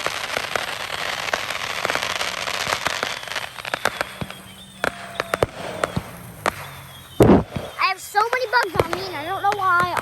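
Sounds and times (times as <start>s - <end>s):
firecrackers popping: 0.0s - 10.0s
fireworks crackling fizz: 0.0s - 10.0s.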